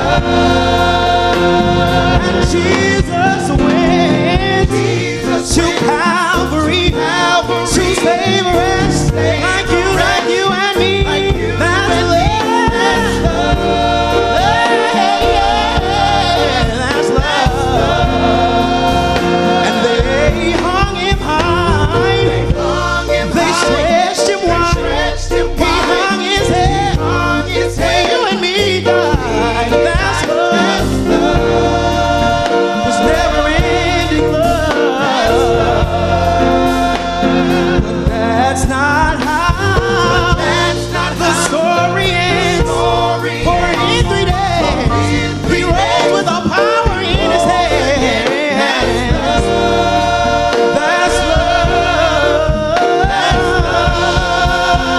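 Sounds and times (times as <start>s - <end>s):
vocal group singing in harmony: 0.0s - 54.9s.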